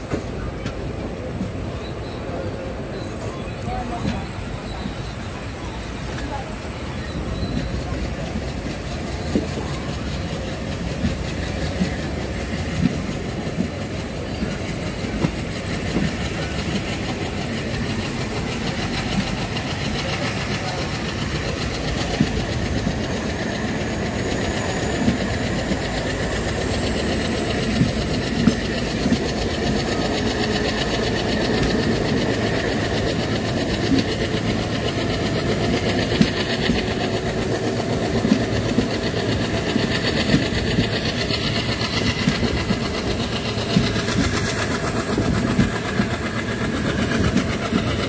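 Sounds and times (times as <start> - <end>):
rail rumble: 0.0 - 48.0
wheels clacking over rail joints: 0.0 - 48.0.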